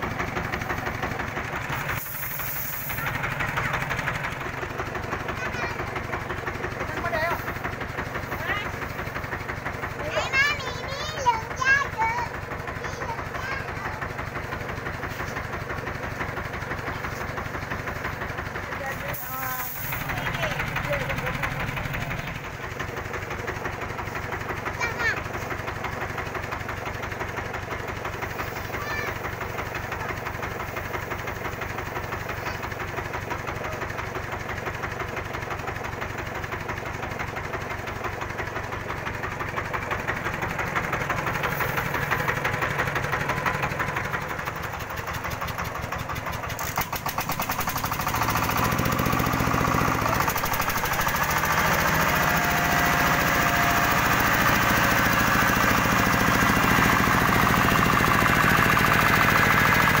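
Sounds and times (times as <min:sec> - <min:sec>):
engine knocking rapidly: 0:00.0 - 1:00.0.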